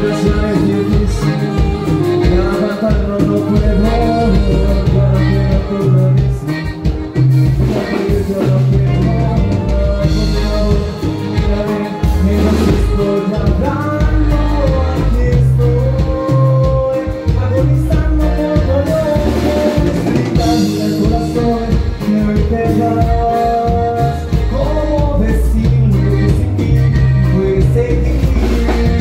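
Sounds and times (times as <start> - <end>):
live band music: 0.0 - 29.0
person singing: 0.0 - 29.0.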